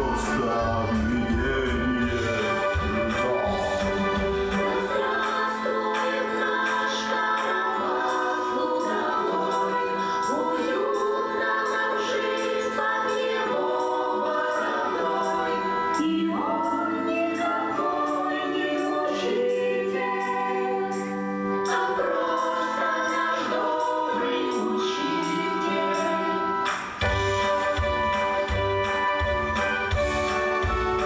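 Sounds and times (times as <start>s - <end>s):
children singing: 0.0s - 26.8s
instrumental accompaniment: 0.0s - 31.0s.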